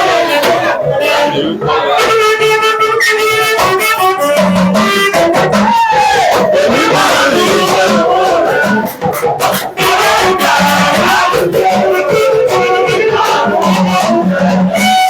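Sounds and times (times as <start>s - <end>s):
loud music over regular beat: 0.0s - 15.0s.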